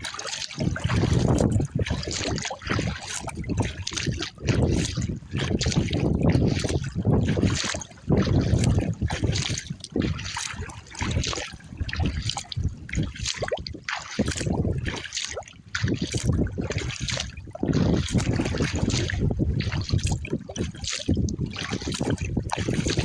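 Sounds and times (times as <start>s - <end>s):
paddle splashing water: 0.0s - 23.0s
wind rumbling on microphone: 0.0s - 23.0s.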